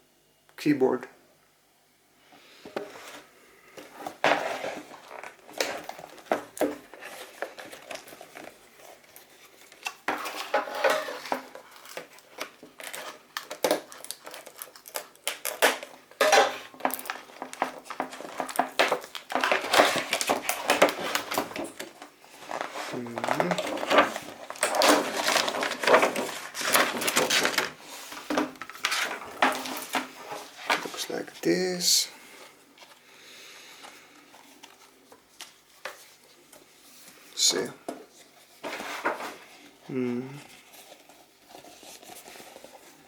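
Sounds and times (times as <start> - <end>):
packaging rustling and scraping: 2.6 - 39.8, 40.4 - 43.0.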